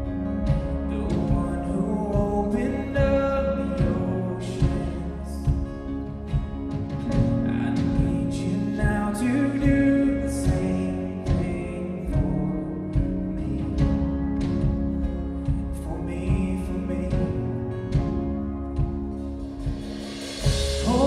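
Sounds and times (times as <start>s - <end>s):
person singing: 0.0s - 19.0s, 20.4s - 21.0s
live worship band playing: 0.0s - 21.0s.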